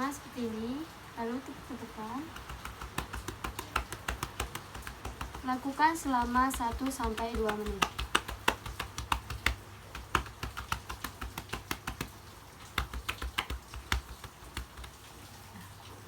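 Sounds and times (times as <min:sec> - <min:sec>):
cupped hands patting chest: 0:02.2 - 0:15.2.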